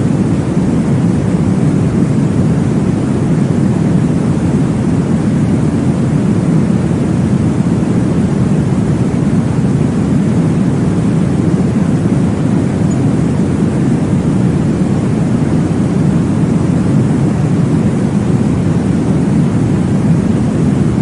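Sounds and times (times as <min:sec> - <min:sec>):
low whooshing white noise: 0:00.0 - 0:21.0.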